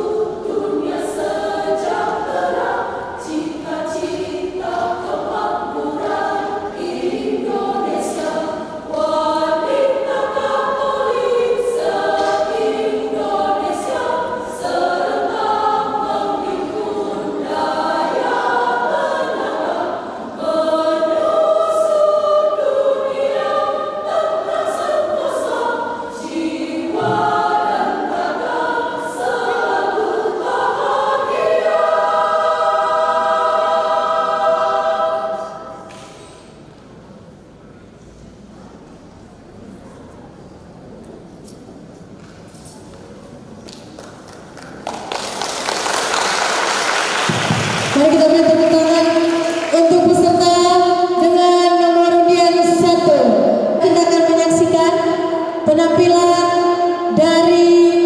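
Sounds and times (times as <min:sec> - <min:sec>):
women's choir singing: 0:00.0 - 0:36.7, 0:44.8 - 0:58.0.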